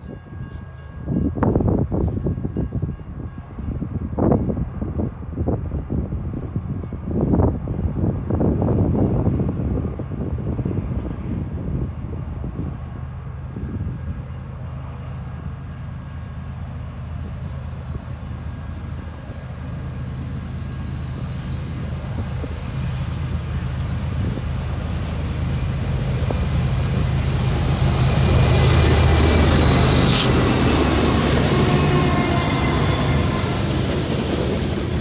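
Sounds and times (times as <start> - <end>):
locomotive engine drone: 0.0 - 35.0
rushing of passing train: 0.0 - 35.0.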